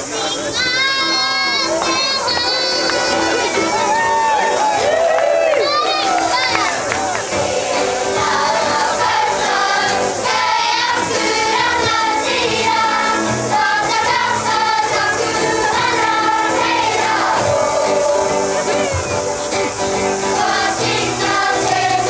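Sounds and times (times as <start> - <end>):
guitar accompaniment: 0.0 - 22.0
children singing together: 0.3 - 3.9, 5.7 - 22.0.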